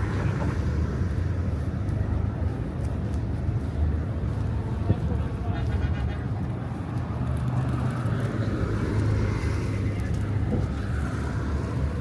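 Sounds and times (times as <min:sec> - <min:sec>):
road traffic rumble: 0:00.0 - 0:12.0
street noise: 0:00.0 - 0:12.0.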